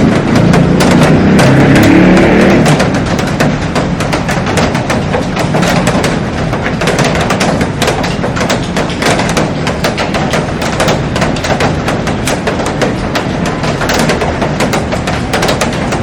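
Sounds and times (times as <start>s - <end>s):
heavy rain drumming on glass roof: 0.0s - 16.0s.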